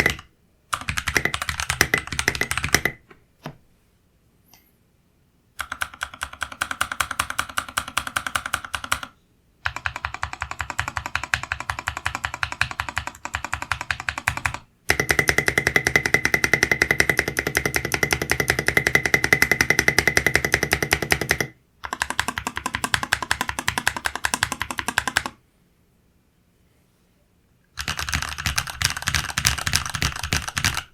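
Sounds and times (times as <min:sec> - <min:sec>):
fast typing on mechanical keyboard: 0:00.0 - 0:03.0, 0:05.6 - 0:25.4, 0:27.8 - 0:30.9.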